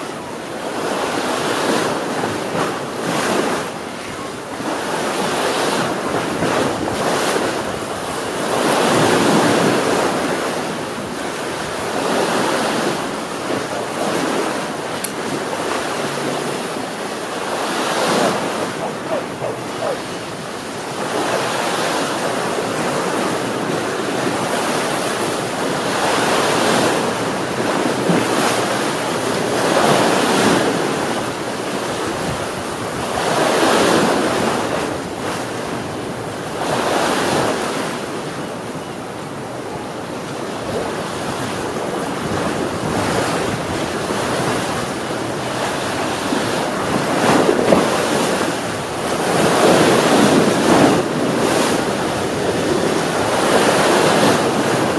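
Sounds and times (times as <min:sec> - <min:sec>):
ocean waves breaking on shore: 0:00.0 - 0:54.9
wind noise on microphone: 0:00.0 - 0:54.9.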